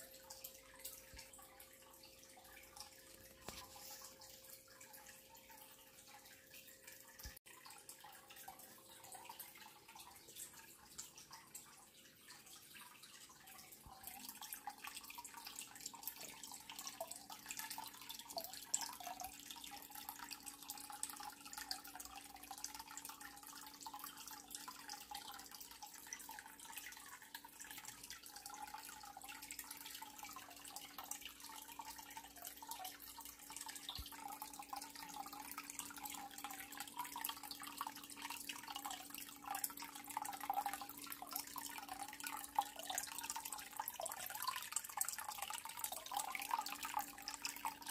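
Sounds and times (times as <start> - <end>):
water dripping and trickling: 0.0 - 47.9.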